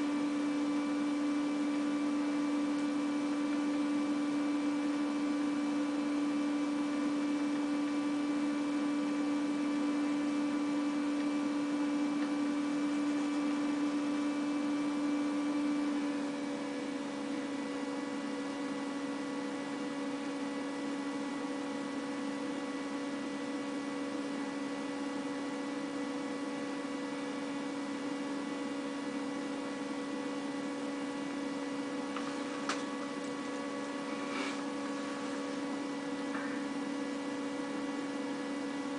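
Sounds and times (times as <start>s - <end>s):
electrical hum: 0.0s - 38.9s.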